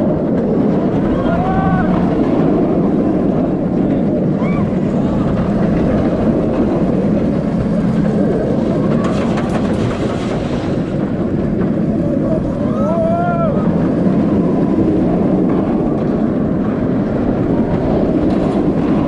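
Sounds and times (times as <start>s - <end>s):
roller coaster train rumbling: 0.0s - 19.0s
wind rushing over microphone: 0.0s - 19.0s.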